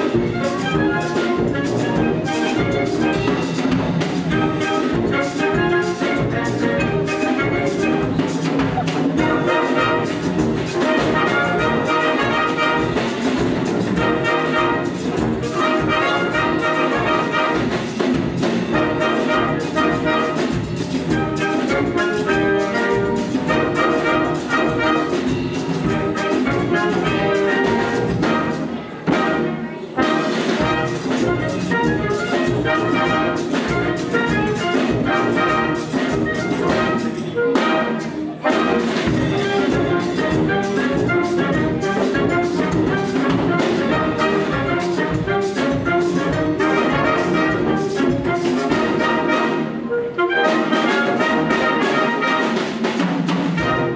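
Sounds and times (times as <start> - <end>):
wind band playing: 0.0 - 53.9.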